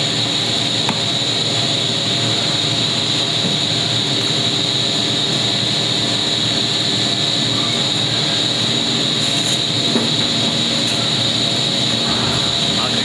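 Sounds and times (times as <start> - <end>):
constant high whine: 0.0 - 13.0
loud mechanical drone: 0.0 - 13.0.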